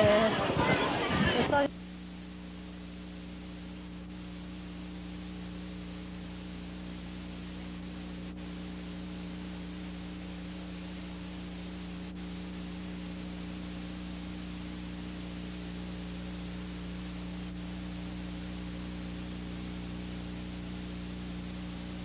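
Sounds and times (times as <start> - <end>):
low electrical hum: 0.0 - 22.0
old recording hiss: 0.0 - 22.0.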